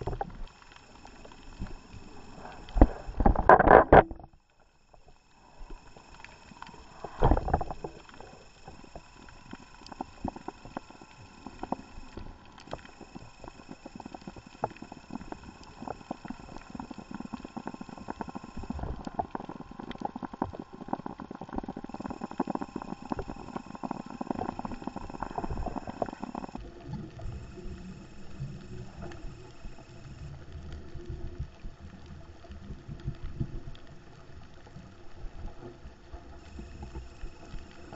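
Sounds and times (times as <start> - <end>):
faint steady hum: 0.0 - 37.9
low rumble of water movement: 0.0 - 37.9.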